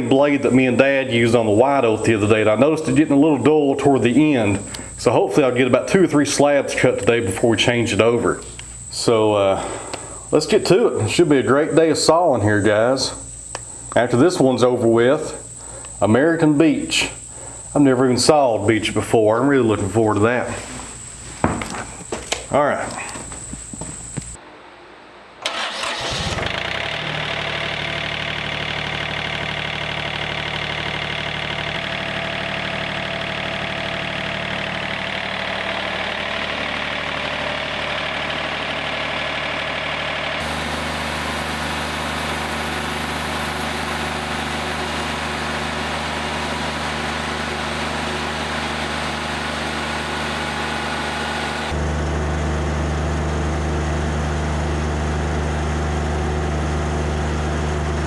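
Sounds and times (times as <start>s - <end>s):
diesel engine starting and running: 0.0s - 14.1s, 25.4s - 58.0s.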